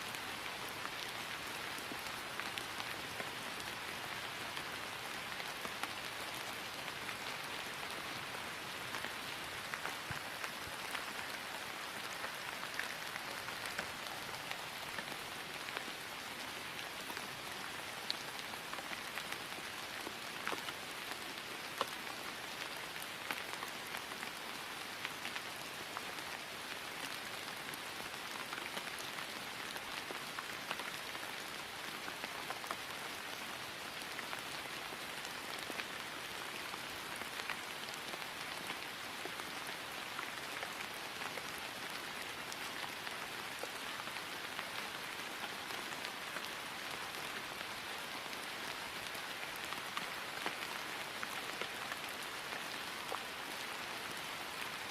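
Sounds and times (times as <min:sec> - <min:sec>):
rain falling on grass: 0:00.0 - 0:54.9.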